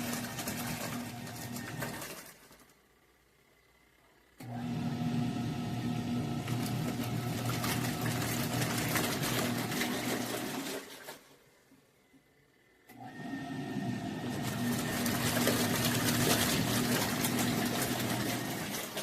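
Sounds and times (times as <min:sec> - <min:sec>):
washer motor humming: 0:00.0 - 0:19.0.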